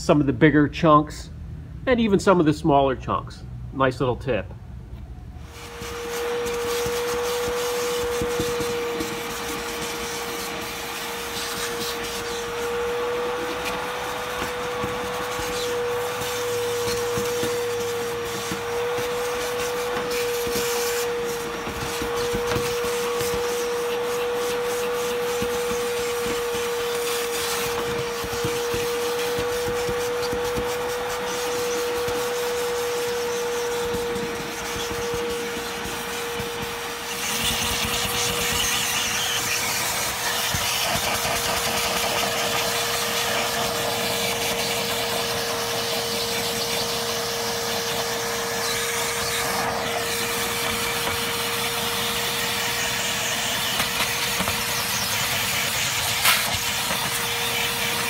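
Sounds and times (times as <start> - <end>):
shop vacuum whining: 4.4 - 58.0.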